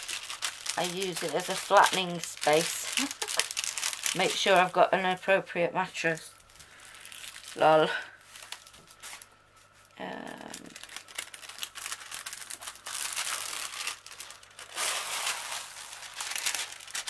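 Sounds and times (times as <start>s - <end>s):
plastic film crinkling: 0.0s - 5.4s, 6.0s - 17.0s.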